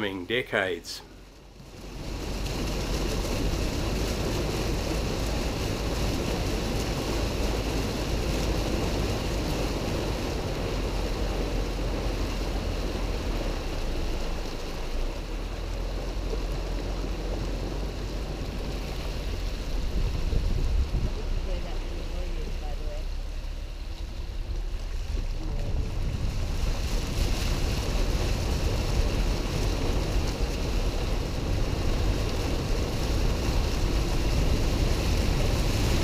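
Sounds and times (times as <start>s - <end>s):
car sloshing through floodwater: 0.0s - 36.0s
low rumble: 1.0s - 36.0s.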